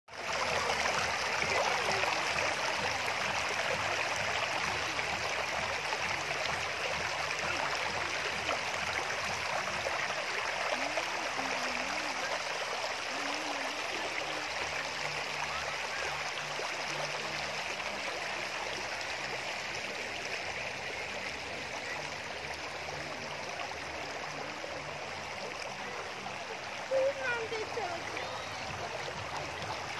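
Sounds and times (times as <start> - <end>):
river water running over stones: 0.1 - 29.9.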